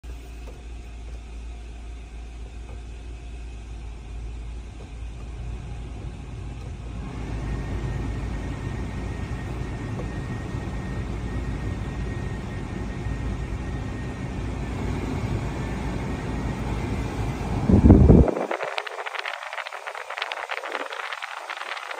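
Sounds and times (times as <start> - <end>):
car blower fan air rush: 0.0 - 21.9.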